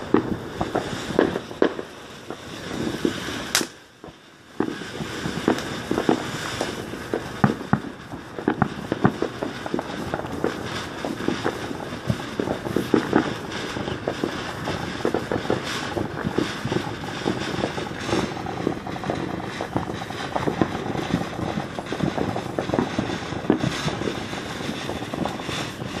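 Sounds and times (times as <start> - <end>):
firework crackles: 0.0 - 26.0
firework rushing hiss: 0.0 - 26.0.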